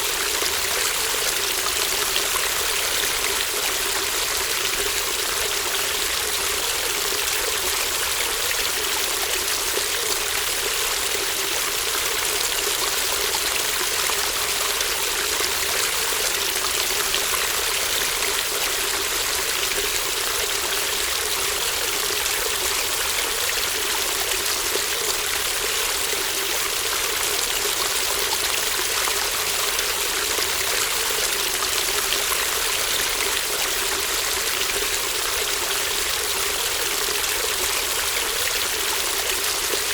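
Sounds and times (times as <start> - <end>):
babbling brook: 0.0 - 39.9.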